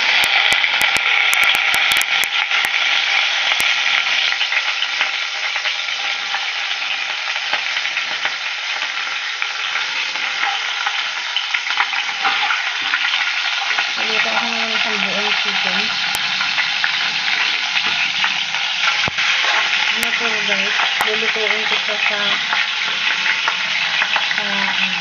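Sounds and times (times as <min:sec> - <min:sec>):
oil sizzling under frying chicken: 0:00.0 - 0:25.0.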